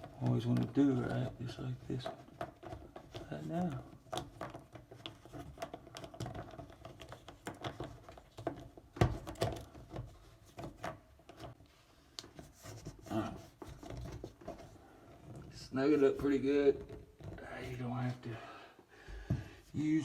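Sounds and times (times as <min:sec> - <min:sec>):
plastic clicks and scrapes: 0:00.0 - 0:17.8.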